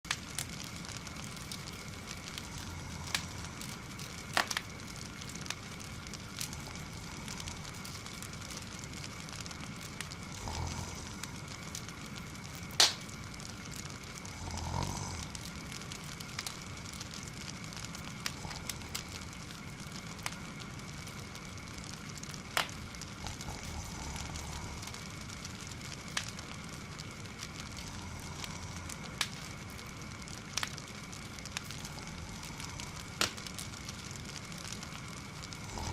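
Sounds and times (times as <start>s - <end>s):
wood fire crackling: 0.0s - 35.9s
soft snoring: 0.1s - 35.9s.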